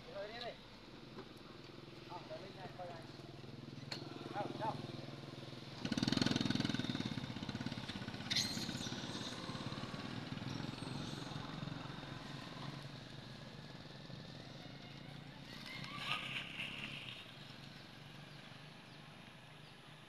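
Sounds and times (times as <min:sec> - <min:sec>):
passing vehicle engine: 0:02.1 - 0:18.9.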